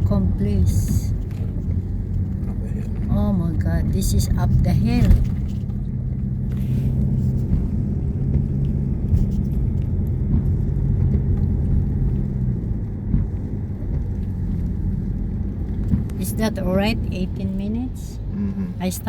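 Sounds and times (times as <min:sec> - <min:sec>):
car engine hum: 0:00.0 - 0:19.0
road noise inside car: 0:00.0 - 0:19.0.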